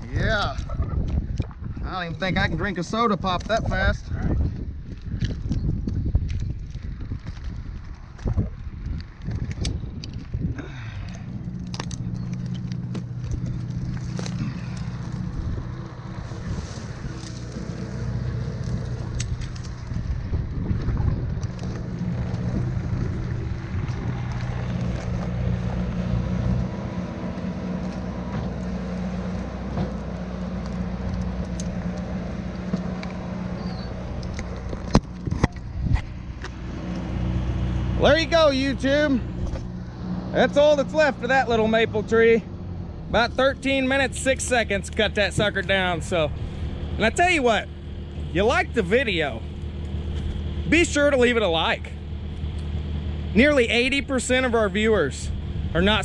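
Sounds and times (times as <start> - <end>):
engine idling: 10.5 - 56.0.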